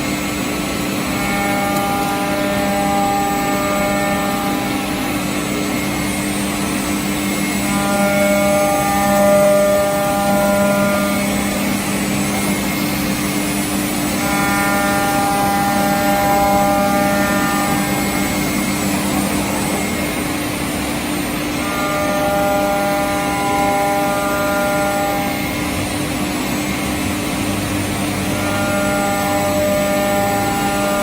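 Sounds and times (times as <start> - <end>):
cnc router spindle hum: 0.0 - 31.0
high cutting whine: 0.0 - 31.0.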